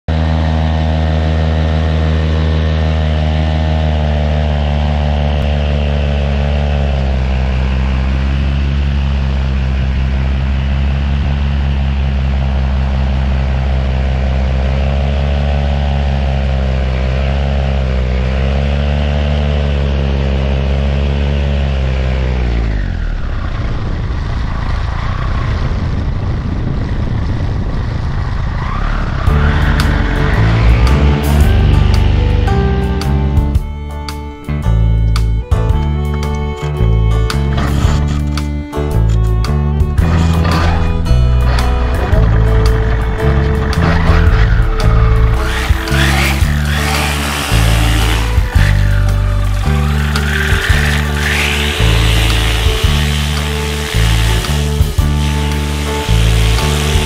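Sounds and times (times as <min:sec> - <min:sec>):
paramotor engine and propeller: 0:00.1 - 0:57.0.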